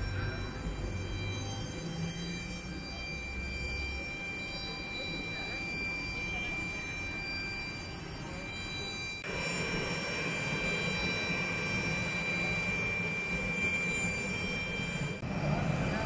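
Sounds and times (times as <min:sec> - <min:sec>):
jet cabin hum and whine: 0:00.0 - 0:16.0.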